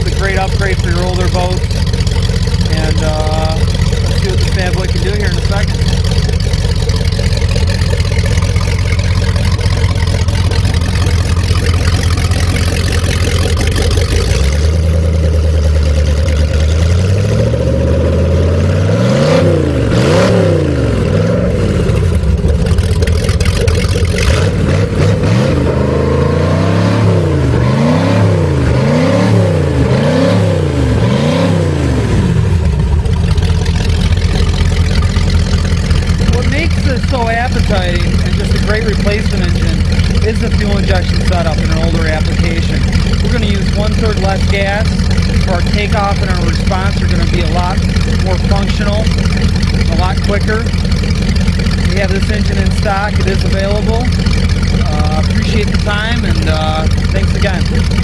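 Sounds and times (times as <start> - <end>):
engine idling and revving: 0.0 - 58.0.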